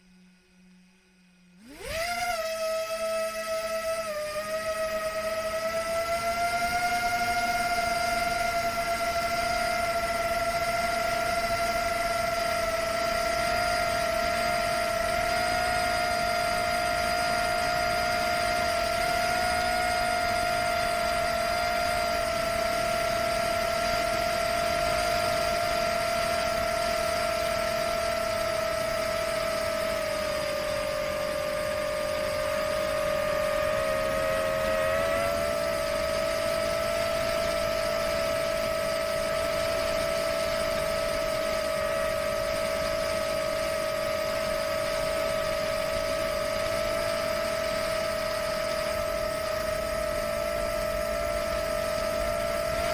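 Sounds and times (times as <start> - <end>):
drone motors and propellers whining: 0.0 - 52.9.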